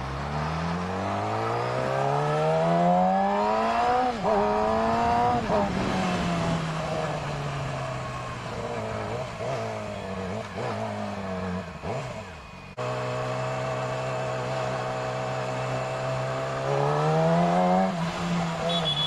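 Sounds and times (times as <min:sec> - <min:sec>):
motorcycle engine: 0:00.0 - 0:19.0.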